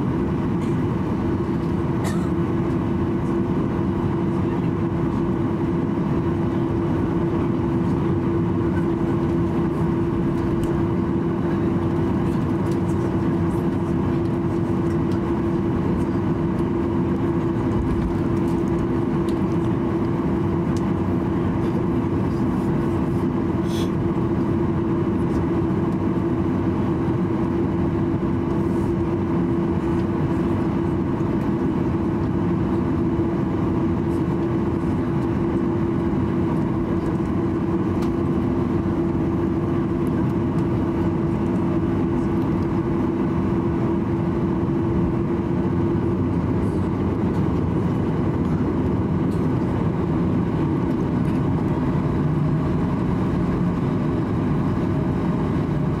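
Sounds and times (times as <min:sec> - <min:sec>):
jet engines running at low power: 0:00.0 - 0:56.0
steady humming tone: 0:00.0 - 0:56.0.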